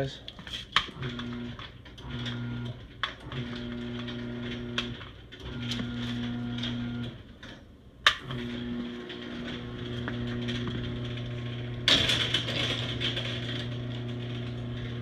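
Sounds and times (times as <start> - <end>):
garage door motor humming: 0.8 - 15.0.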